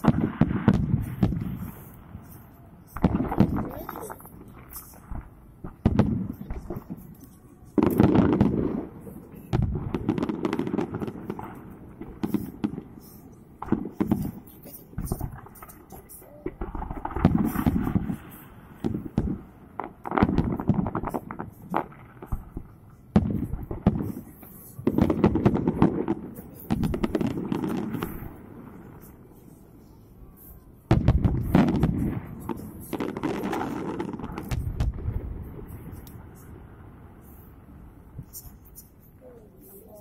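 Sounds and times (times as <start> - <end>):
fireworks booming and crackling: 0.0 - 40.0.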